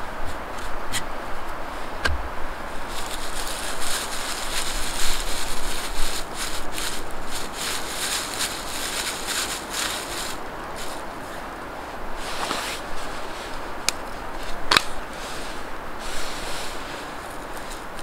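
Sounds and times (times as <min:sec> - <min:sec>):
dry tinder crackling rustle: 0:00.0 - 0:18.0.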